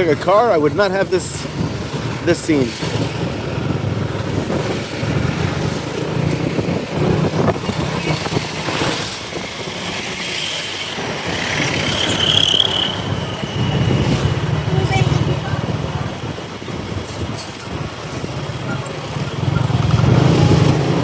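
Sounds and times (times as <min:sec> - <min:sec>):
wind and road noise: 0:00.0 - 0:21.0
motorcycle engine running: 0:01.5 - 0:21.0.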